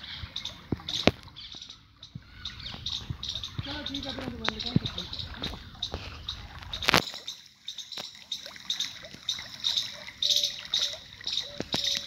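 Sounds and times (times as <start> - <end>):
water trickling: 0.0 - 12.0
high chirping notes: 0.2 - 12.0.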